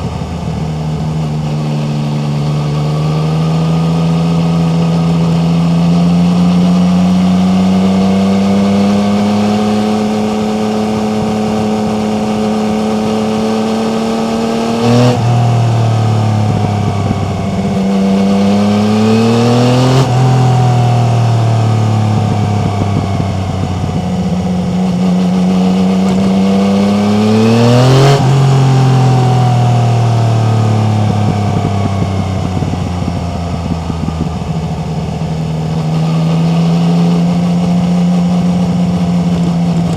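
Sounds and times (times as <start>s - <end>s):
motorcycle engine pulling under load: 7.7s - 39.9s.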